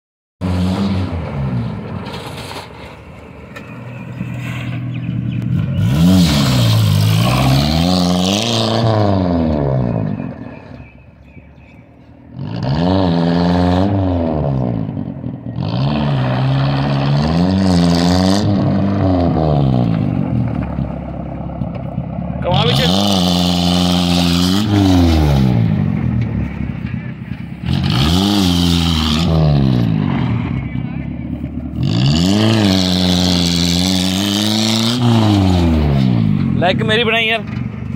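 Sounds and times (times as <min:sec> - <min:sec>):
car engine revving: 0:00.4 - 0:37.9.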